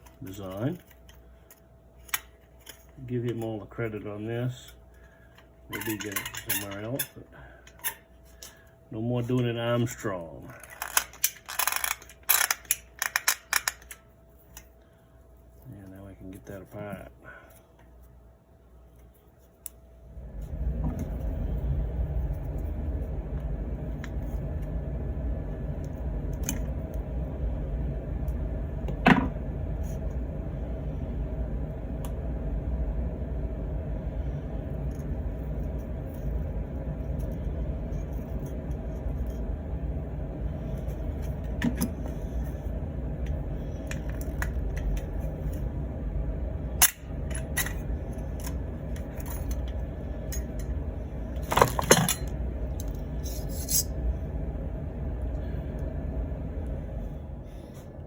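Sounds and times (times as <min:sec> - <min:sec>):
low machine rumble: 0:00.0 - 0:58.0.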